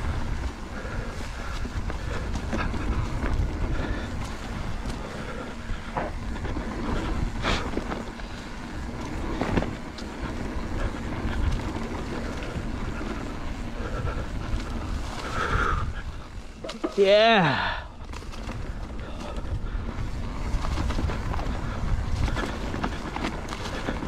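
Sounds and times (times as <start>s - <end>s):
bike rattling and knocking: 0.0s - 24.0s
wind rumbling on microphone: 0.0s - 24.0s.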